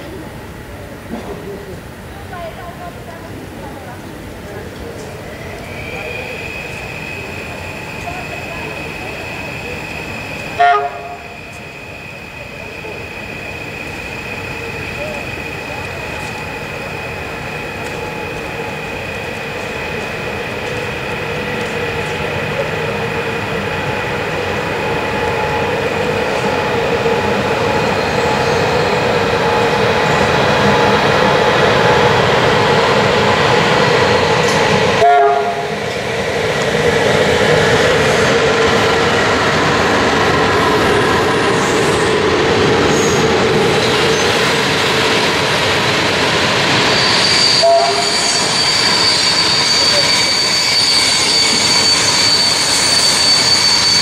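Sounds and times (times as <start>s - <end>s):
electric locomotive passing: 0.0s - 54.0s
train coaches rolling by: 0.0s - 54.0s.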